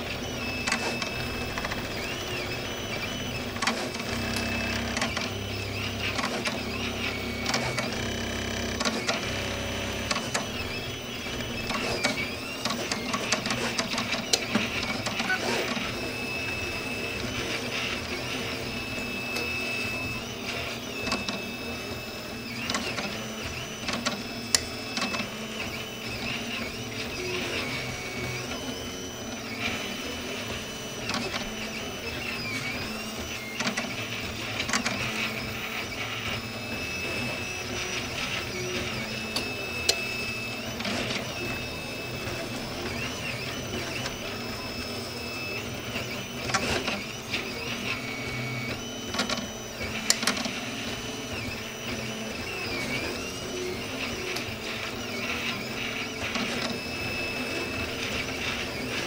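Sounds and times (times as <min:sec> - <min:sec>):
stepper motors whining: 0:00.0 - 0:59.0.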